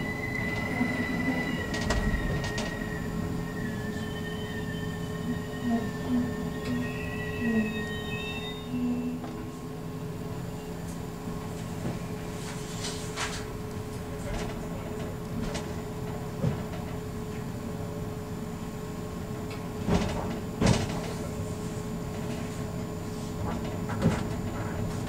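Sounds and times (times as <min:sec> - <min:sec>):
train rumble with low hum: 0:00.0 - 0:25.0.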